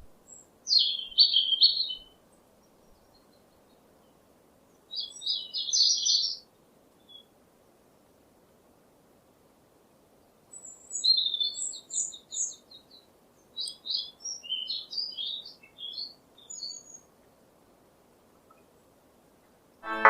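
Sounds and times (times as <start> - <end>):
songbird chirping: 0.0 - 8.2, 10.1 - 18.8.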